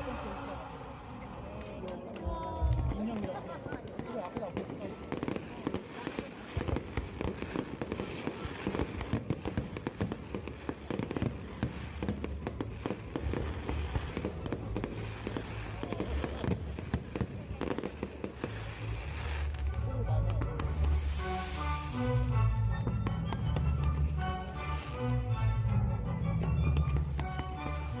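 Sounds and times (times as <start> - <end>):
fireworks bangs and crackles: 1.5 - 28.0.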